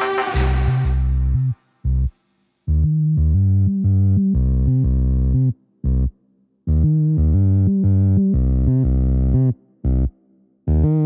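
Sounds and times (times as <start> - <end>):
synthesizer and bass chords: 0.0 - 2.1, 2.7 - 11.0.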